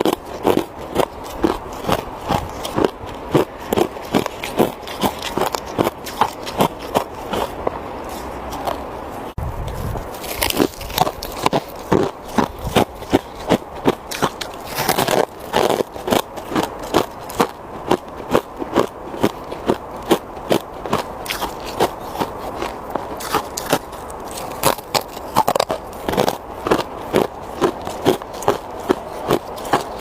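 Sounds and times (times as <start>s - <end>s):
ice crunching between teeth: 0.0s - 9.0s, 9.6s - 30.0s.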